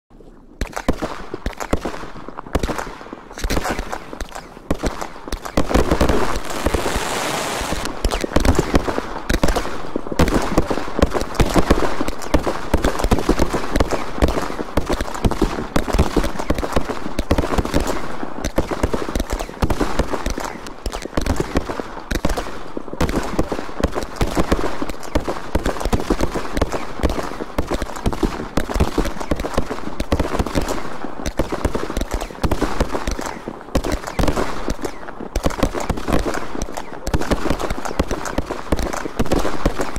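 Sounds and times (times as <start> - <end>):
fireworks bursting bangs and pops: 0.2 - 39.9.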